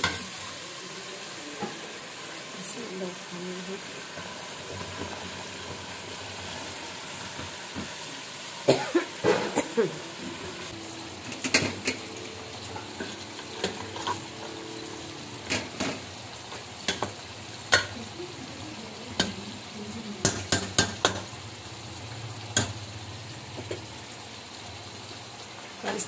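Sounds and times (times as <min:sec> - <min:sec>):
vegetables sizzling in a pot: 0:00.0 - 0:26.0.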